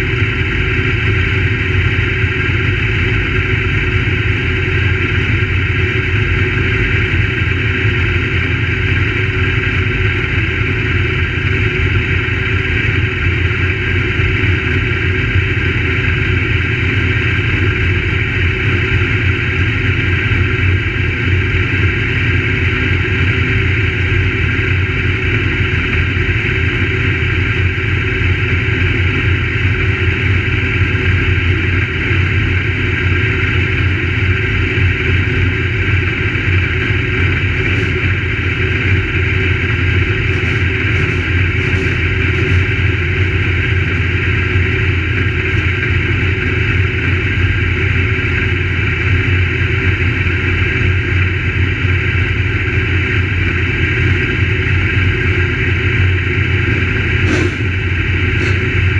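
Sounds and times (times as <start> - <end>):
race car engine running: 0.0 - 58.9.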